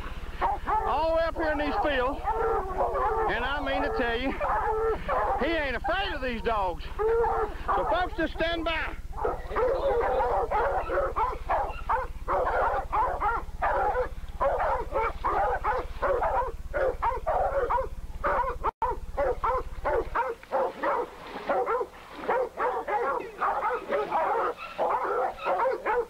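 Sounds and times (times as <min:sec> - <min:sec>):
dogs barking rapidly: 0:00.0 - 0:26.0.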